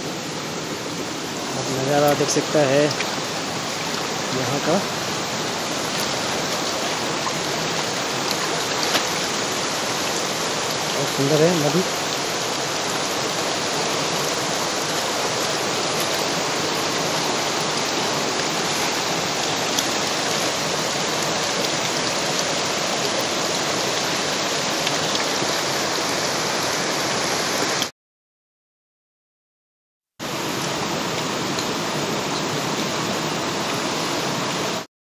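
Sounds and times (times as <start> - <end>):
river rushing over rocks: 0.0 - 27.9, 30.2 - 34.8.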